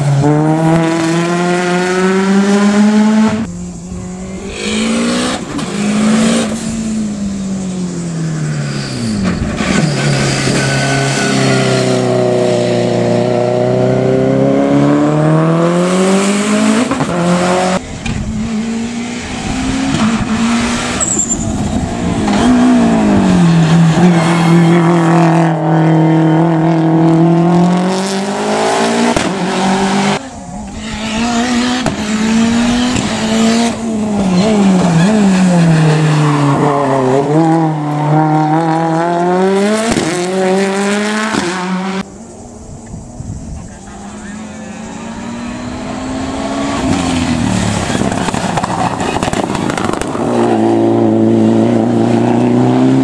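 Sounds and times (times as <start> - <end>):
race car engine at high revs: 0.0 - 42.2, 42.8 - 53.0.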